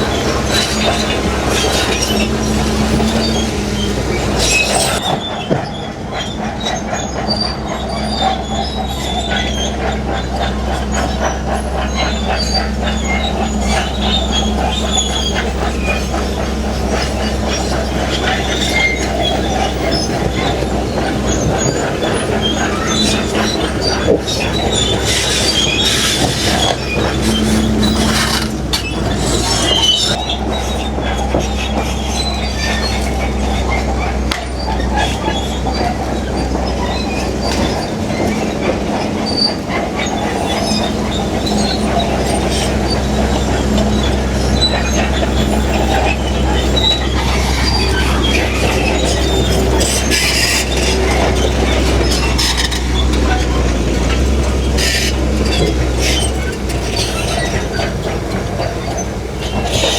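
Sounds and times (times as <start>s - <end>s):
diesel engine drone: 0.0s - 5.3s, 6.2s - 59.9s
steel tracks squealing and clanking: 0.0s - 59.9s.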